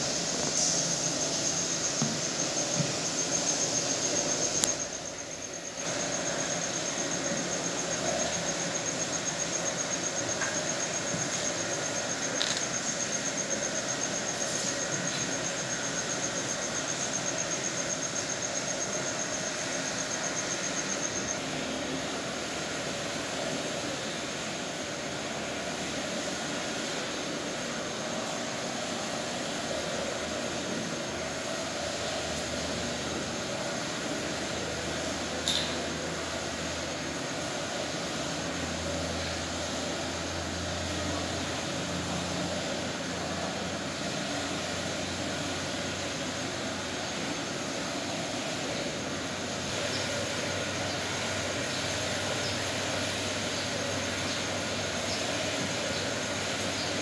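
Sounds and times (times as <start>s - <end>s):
background hiss and hum: 0.0s - 57.0s.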